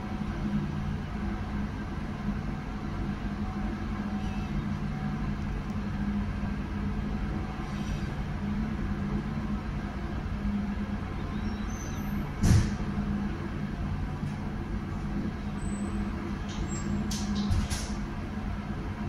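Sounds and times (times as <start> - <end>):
constant rushing noise: 0.0 - 19.0
ship machinery humming: 0.0 - 19.0.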